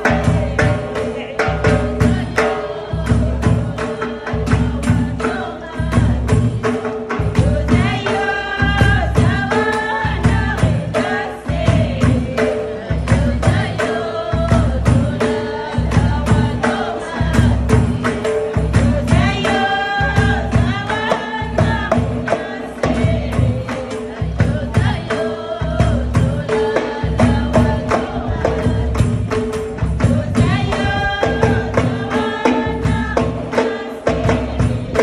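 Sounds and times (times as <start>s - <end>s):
frame drums beating: 0.0s - 35.0s
women's chorus singing: 0.0s - 35.0s.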